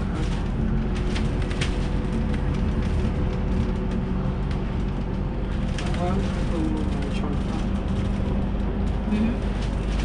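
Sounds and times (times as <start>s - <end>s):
bus engine drone: 0.0s - 10.0s
road rumble: 0.0s - 10.0s.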